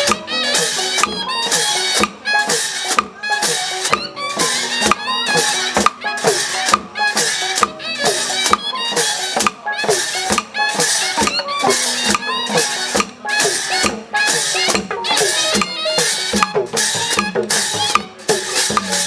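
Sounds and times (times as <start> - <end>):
pitched gliding notes: 0.0 - 18.3
drum beat of sharp strokes: 0.0 - 19.0.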